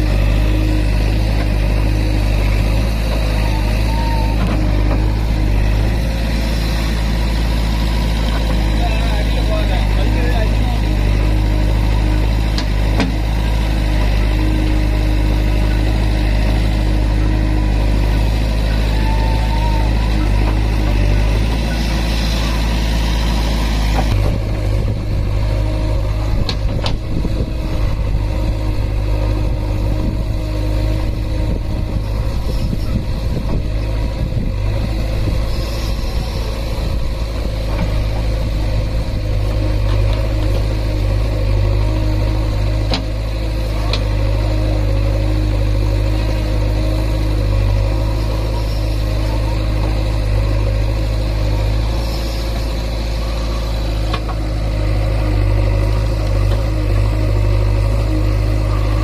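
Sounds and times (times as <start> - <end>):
backhoe digging earth: 0.0 - 59.0
diesel engine running: 0.0 - 59.0.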